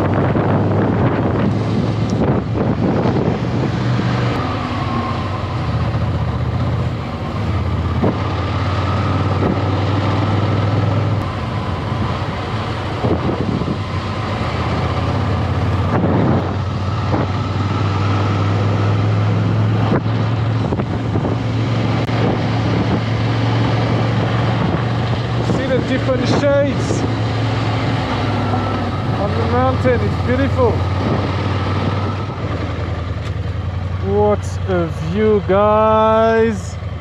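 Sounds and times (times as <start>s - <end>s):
wind buffeting microphone: 0.0s - 36.6s
motorcycle engine running: 0.0s - 37.0s.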